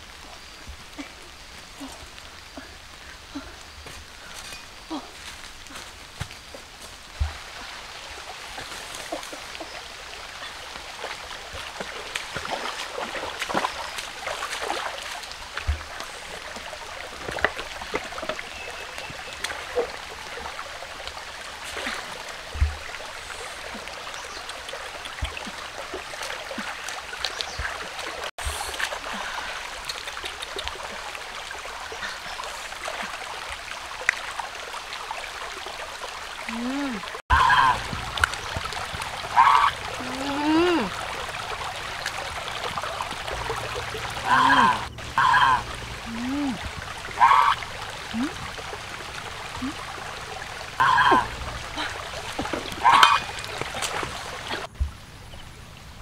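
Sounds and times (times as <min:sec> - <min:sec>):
stream trickling over rocks: 0:00.0 - 0:56.0
person wading through water: 0:01.0 - 0:54.7.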